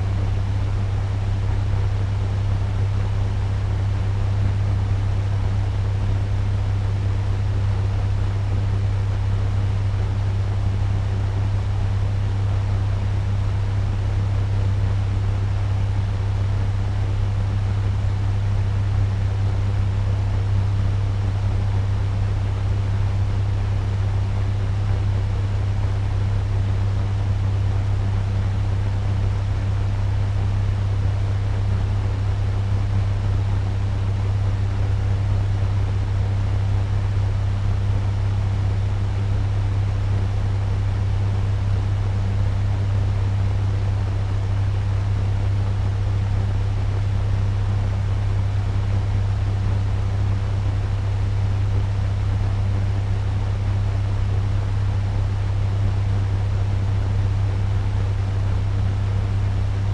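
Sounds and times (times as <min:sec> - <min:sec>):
fan running: 0:00.0 - 0:59.9.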